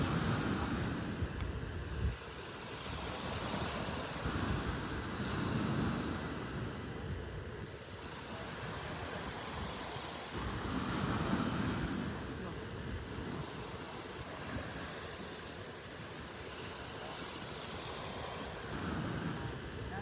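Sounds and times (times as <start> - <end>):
small waves breaking on sand: 0.0 - 20.0
wind buffeting microphone: 0.0 - 20.0.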